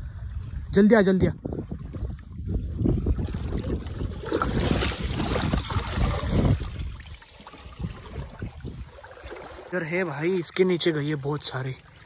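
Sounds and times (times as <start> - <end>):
stream water sloshing and splashing: 1.4 - 12.0.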